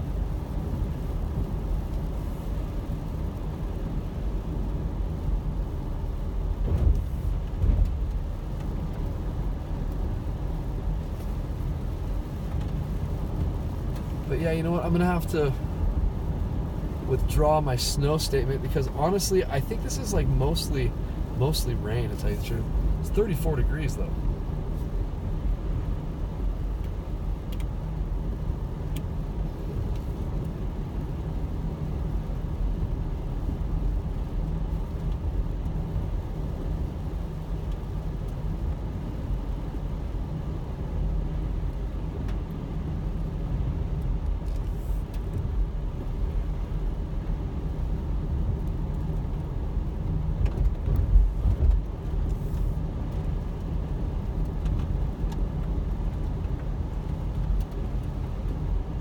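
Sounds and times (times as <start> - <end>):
road and engine rumble inside car: 0.0 - 59.0.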